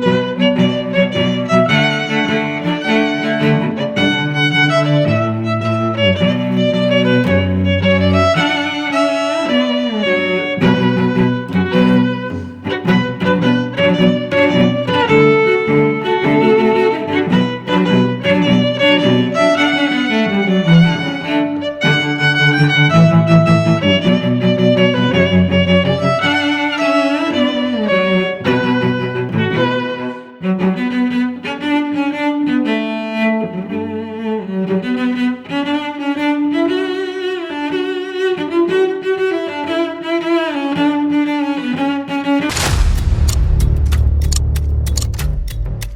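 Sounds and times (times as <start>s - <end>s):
bowed string music: 0.0s - 45.9s.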